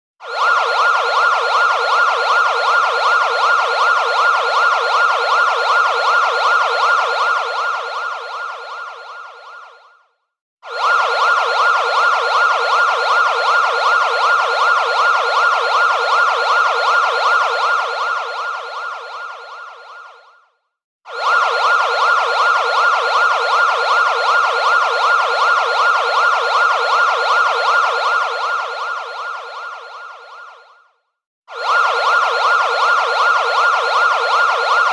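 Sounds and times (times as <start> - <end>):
warbling siren: 0.2 - 34.9.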